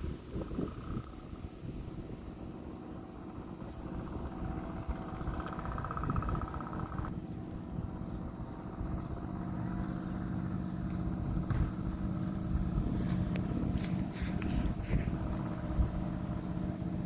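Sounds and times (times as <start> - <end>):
kite droning hum: 0.0 - 17.0.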